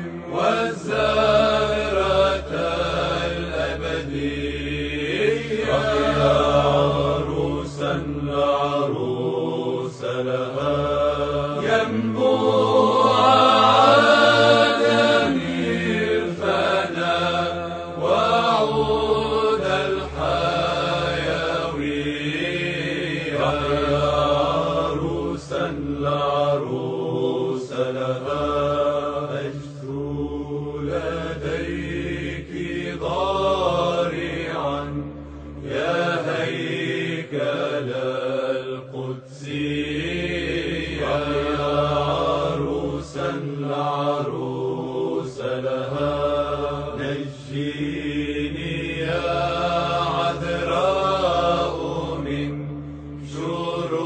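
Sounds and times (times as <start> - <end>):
low held drone: 0.0 - 54.0
voices chanting a slow melody: 0.0 - 54.0.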